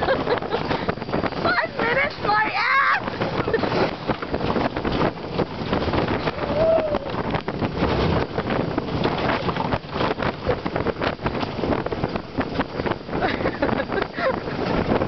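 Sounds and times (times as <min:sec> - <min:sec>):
bobsled rumbling on rail track: 0:00.0 - 0:15.0
wind on microphone: 0:00.0 - 0:15.0.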